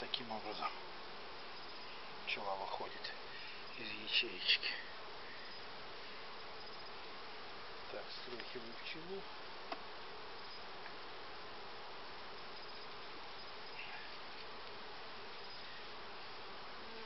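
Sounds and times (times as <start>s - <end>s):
honeybees buzzing: 0.1s - 17.0s.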